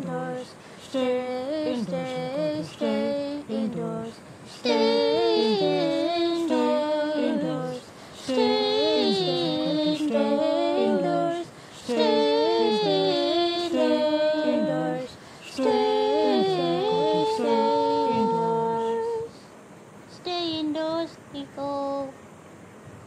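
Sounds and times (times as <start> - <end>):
woman singing a cappella: 0.0 - 19.5.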